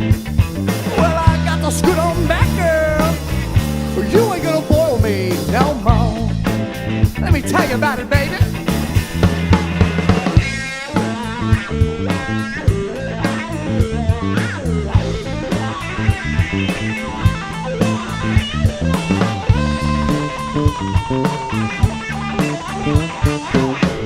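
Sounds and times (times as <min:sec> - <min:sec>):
drum kit beat: 0:00.0 - 0:24.0
rock guitar lines: 0:00.0 - 0:24.0.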